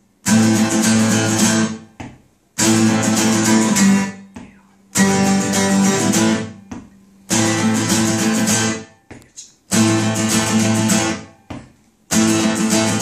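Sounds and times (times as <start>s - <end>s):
acoustic guitars strumming chords: 0.0s - 13.0s.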